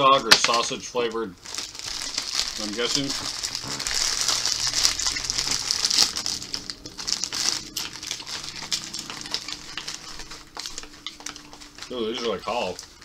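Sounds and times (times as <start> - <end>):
chip bag crinkling: 0.3 - 13.0
hand rustling in bag: 1.4 - 13.0.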